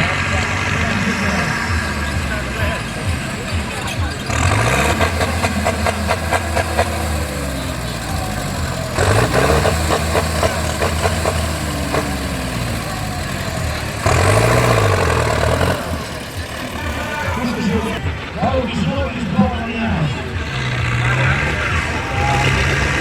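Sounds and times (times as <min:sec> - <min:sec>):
diesel tractor engines revving: 0:00.0 - 0:23.0.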